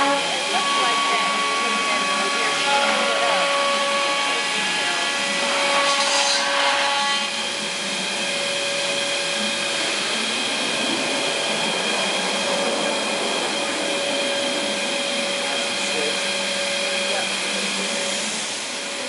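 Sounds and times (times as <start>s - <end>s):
cutting noise: 0.0s - 19.0s
router spindle whine: 0.0s - 19.0s.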